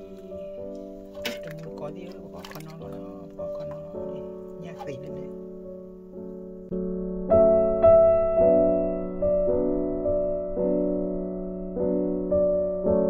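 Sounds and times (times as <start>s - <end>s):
slow piano-like keyboard music: 0.0s - 13.0s.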